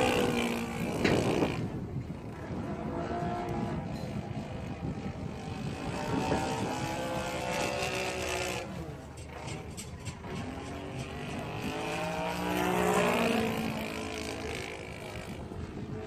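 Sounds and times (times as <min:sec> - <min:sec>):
model plane engine running: 0:00.0 - 0:16.0.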